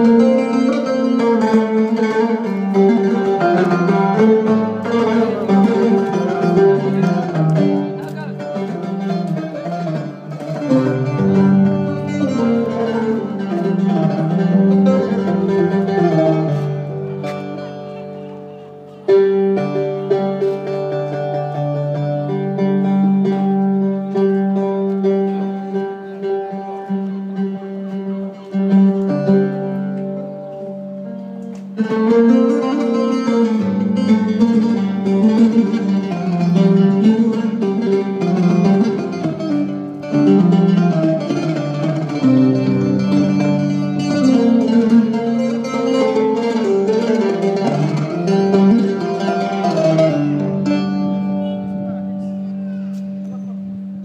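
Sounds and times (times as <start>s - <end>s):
plucked string melody: 0.0s - 54.0s.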